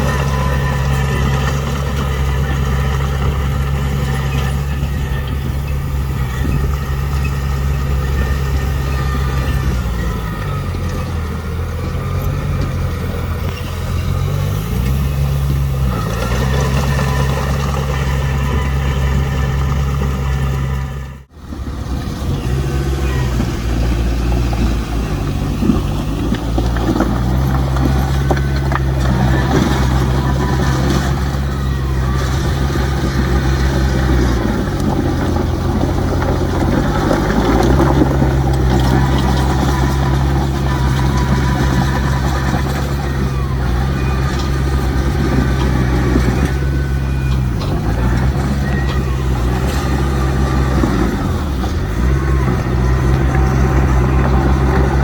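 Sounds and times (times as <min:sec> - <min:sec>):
diesel earthmoving machinery running: 0:00.0 - 0:55.0
rough clatter: 0:00.0 - 0:55.0.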